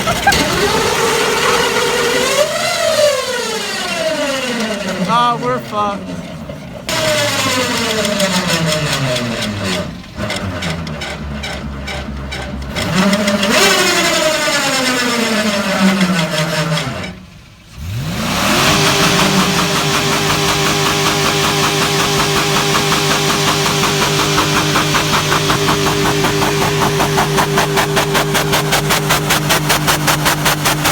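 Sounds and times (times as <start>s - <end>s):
engine with rod knock revving: 0.0s - 5.3s, 6.2s - 30.9s.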